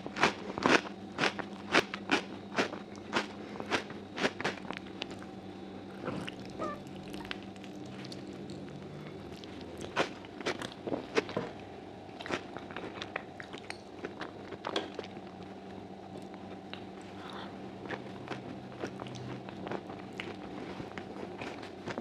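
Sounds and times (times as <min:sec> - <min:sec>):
faint steady hum: 0:00.0 - 0:22.0
person chewing food: 0:00.1 - 0:05.3, 0:06.0 - 0:11.6, 0:12.2 - 0:15.4, 0:16.1 - 0:22.0.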